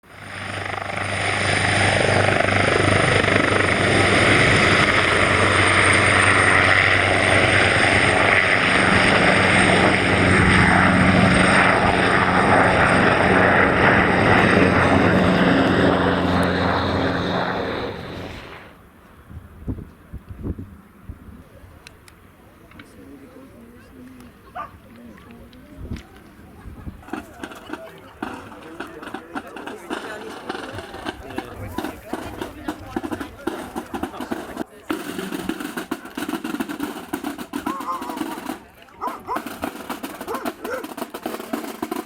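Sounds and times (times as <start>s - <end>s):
helicopter rotor and engine: 0.0s - 18.9s, 23.9s - 42.0s.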